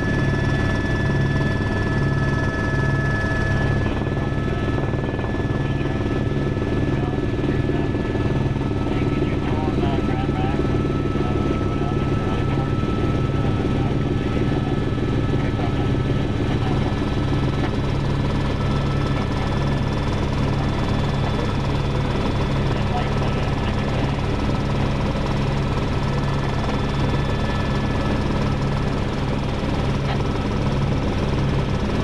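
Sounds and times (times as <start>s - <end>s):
helicopter high whine: 0.0s - 32.0s
helicopter rotor beat: 0.0s - 32.0s.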